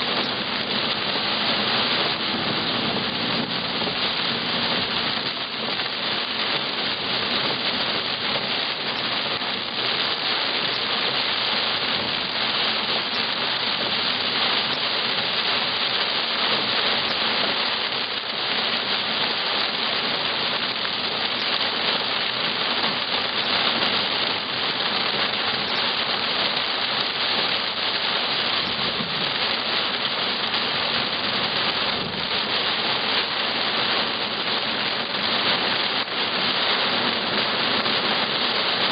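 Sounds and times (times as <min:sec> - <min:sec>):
heavy rain on a car: 0:00.0 - 0:38.9.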